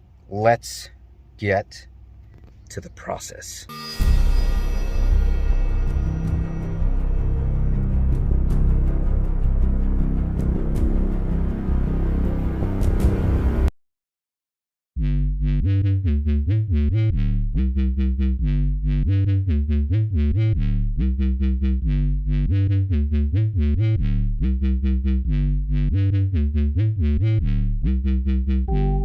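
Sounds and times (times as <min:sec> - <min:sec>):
electronic music track: 0:03.6 - 0:13.7, 0:15.2 - 0:29.0
synthesizer track with bass beat: 0:03.9 - 0:13.7, 0:15.0 - 0:29.0.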